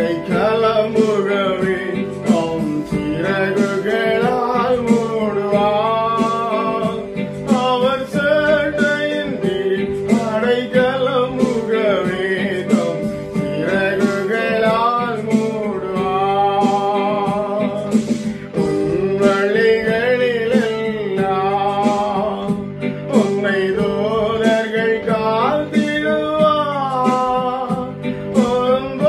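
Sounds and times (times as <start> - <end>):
guitar accompaniment: 0.0 - 29.0
man singing: 0.0 - 29.0.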